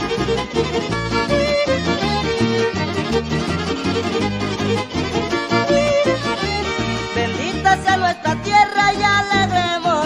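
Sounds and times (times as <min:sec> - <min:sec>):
violins playing melody: 0:00.0 - 0:09.6
guitars: 0:00.0 - 0:10.0
plucked bass line: 0:00.0 - 0:10.0.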